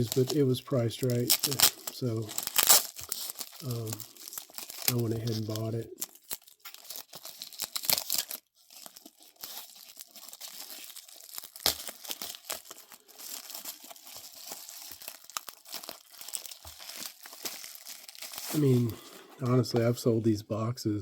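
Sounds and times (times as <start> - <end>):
packaging crinkling and tearing: 0.0 - 20.1.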